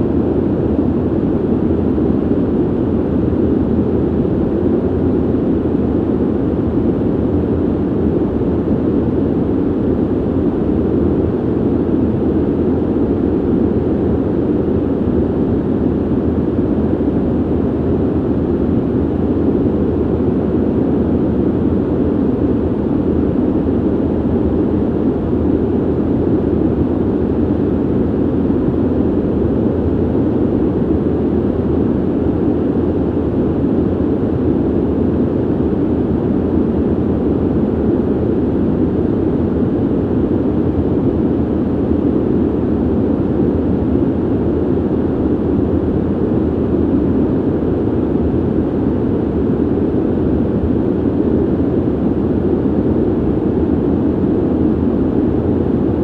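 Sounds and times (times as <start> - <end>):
ventilation air rush: 0.0 - 56.0.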